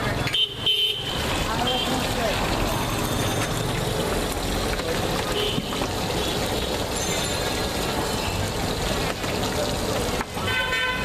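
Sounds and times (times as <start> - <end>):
steady traffic noise: 0.0 - 11.0.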